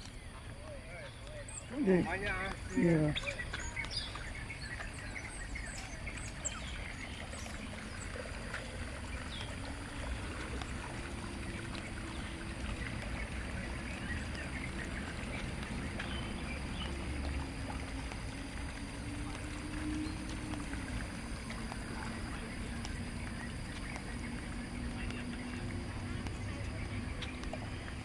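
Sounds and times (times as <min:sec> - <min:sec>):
birds chirping: 0:00.0 - 0:28.0
water running along canal: 0:00.0 - 0:28.0.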